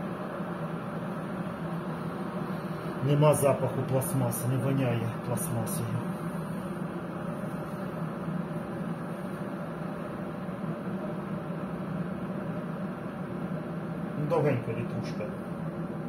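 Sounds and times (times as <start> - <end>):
kettle heating water hiss: 0.0 - 16.0.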